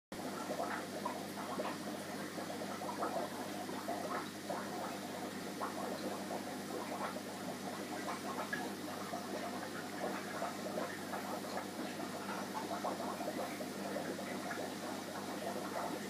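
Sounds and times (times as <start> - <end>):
aquarium air bubbling: 0.2 - 16.0.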